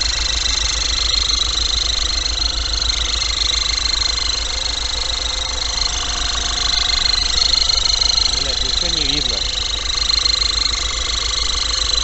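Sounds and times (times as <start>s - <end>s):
diesel engine pulsing: 0.0s - 12.0s.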